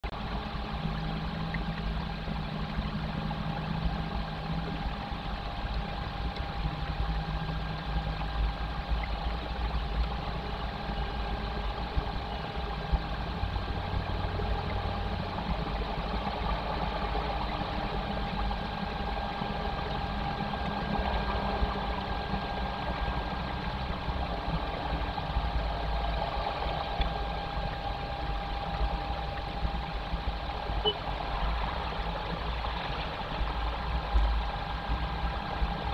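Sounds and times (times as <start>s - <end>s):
faint steady whine: 0.0s - 35.9s
low rumble and hiss: 0.0s - 35.9s.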